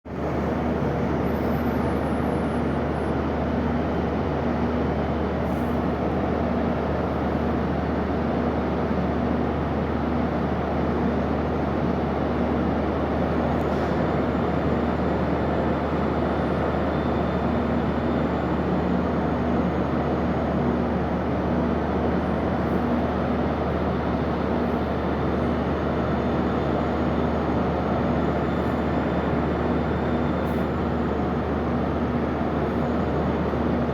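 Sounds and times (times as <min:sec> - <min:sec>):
ship machinery drone: 0:00.1 - 0:33.9.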